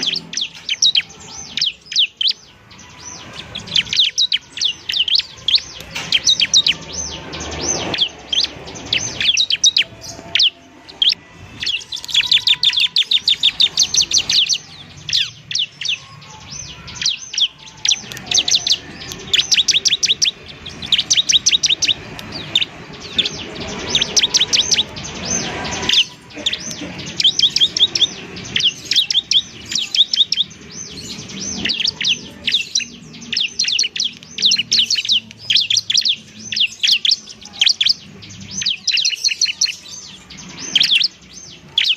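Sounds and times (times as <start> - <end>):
bird trilling high chirps: 0.0 - 41.9.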